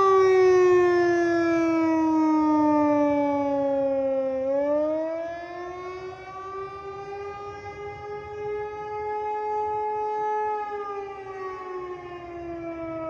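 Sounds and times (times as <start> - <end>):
tornado siren wailing: 0.0 - 13.0.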